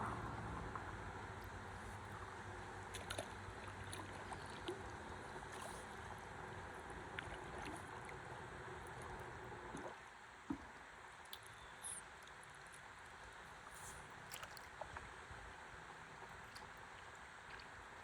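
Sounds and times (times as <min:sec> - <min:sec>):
river water lapping and trickling: 0:00.0 - 0:18.0.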